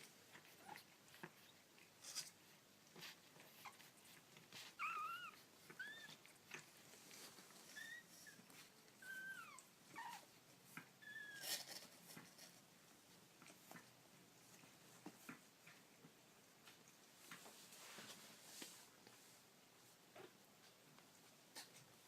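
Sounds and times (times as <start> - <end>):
faint clicks and rustles: 0.0 - 22.0.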